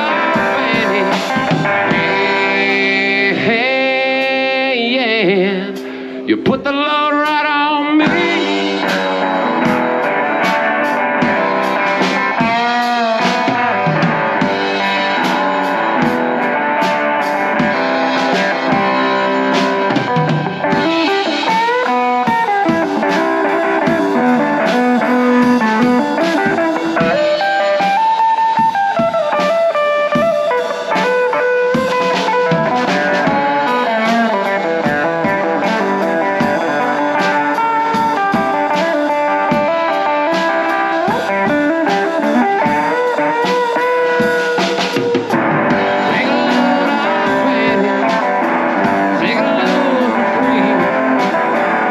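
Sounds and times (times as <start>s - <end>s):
drum kit beat: 0.0s - 51.9s
electric guitar lead lines: 0.0s - 51.9s.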